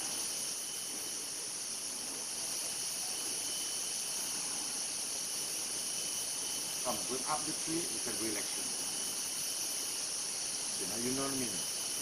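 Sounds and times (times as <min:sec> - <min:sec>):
insect chorus hissing drone: 0:00.0 - 0:12.0
thin high whine: 0:00.0 - 0:12.0.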